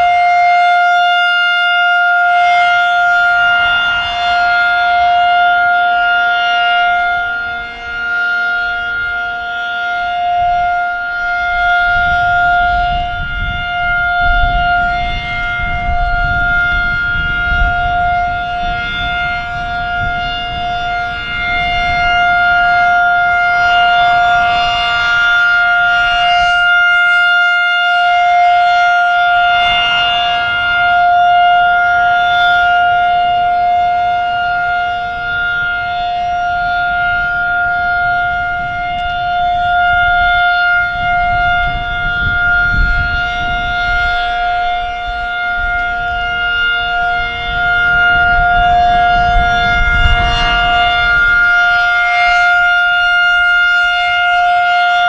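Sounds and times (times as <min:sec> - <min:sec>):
warning siren steady tone: 0:00.0 - 0:55.0
wind buffeting microphone: 0:00.0 - 0:55.0.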